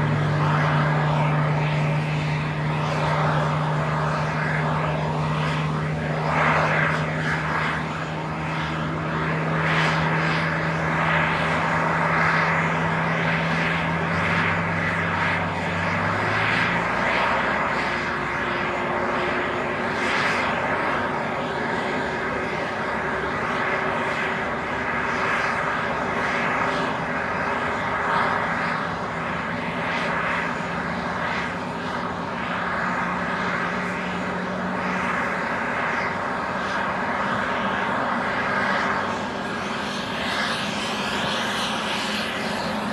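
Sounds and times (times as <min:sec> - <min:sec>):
jet engines running: 0:00.0 - 0:42.9
low hum: 0:00.0 - 0:42.9.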